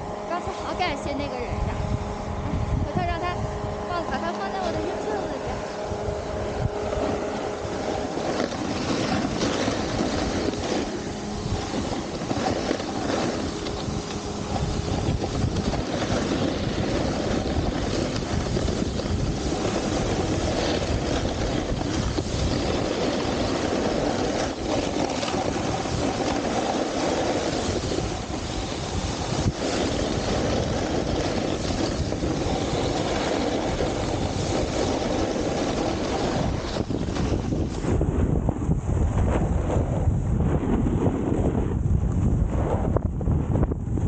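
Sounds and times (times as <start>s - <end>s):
wind buffeting microphone: 0.0s - 44.0s
snowboard rushing on icy snow: 2.8s - 43.6s.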